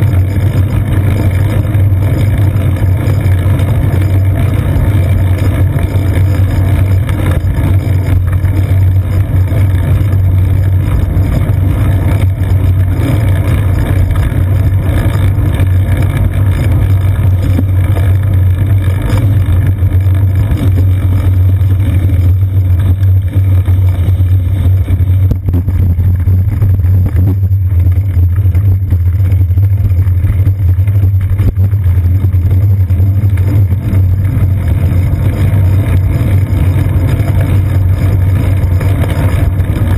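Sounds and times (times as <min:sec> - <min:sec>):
bicycle road vibration: 0:00.0 - 0:39.9.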